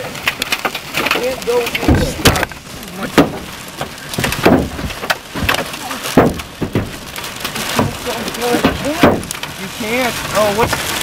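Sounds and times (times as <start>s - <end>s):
hailstones banging on metal: 0.0s - 11.0s
hiss of falling hail and rain: 0.0s - 11.0s.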